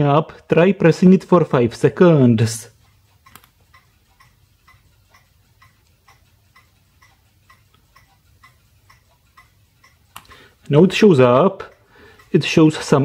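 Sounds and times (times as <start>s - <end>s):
parking sensor ticking: 1.8s - 13.0s.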